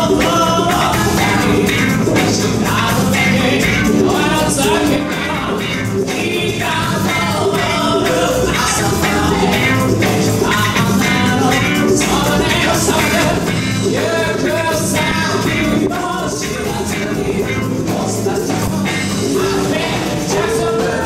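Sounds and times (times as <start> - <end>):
bass guitar: 0.0 - 21.0
drums: 0.0 - 21.0
electric guitar: 0.0 - 21.0
electric keyboard: 0.0 - 21.0
person singing: 0.0 - 21.0.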